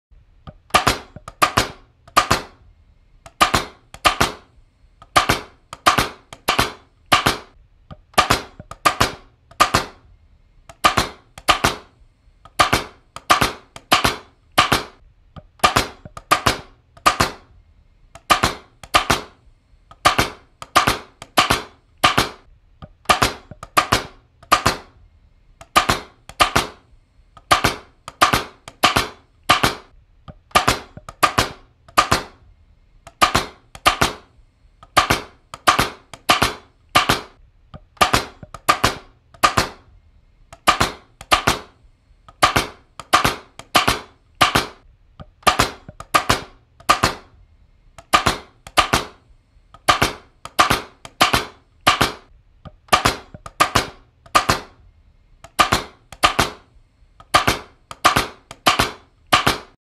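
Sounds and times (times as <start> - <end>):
pneumatic staple gun firing: 0.7 - 2.6, 3.3 - 10.0, 10.7 - 15.0, 15.6 - 17.5, 18.1 - 25.0, 25.6 - 26.8, 27.4 - 29.9, 30.5 - 32.4, 33.1 - 37.4, 38.0 - 39.9, 40.5 - 44.8, 45.4 - 47.3, 48.0 - 52.3, 52.9 - 54.8, 55.4 - 59.8.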